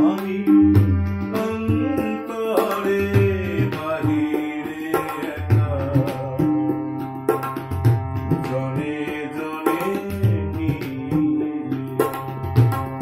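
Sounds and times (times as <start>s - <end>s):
harmonium melody: 0.0s - 13.0s
tabla rhythm: 0.0s - 13.0s.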